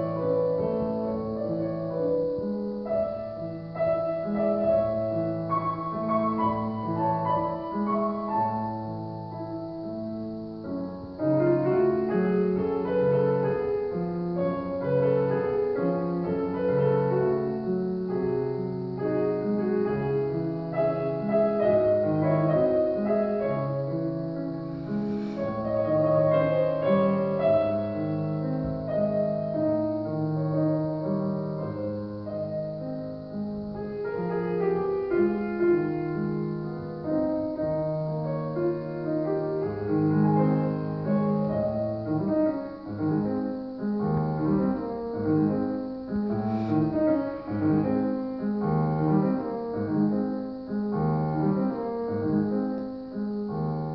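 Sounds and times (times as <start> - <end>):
grand piano piece: 0.0 - 53.9.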